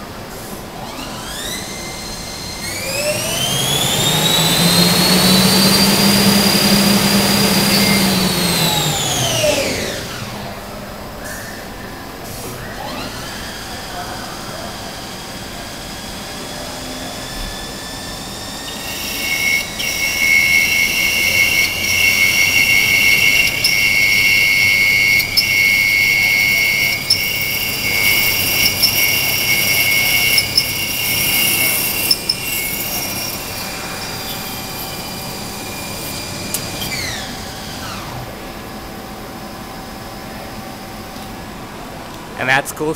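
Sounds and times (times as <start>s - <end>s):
lathe spindle whine: 0.0s - 42.0s.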